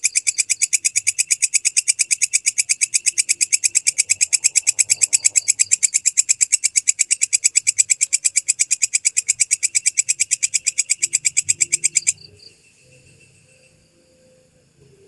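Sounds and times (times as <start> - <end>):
katydid rasping: 0.0 - 12.3.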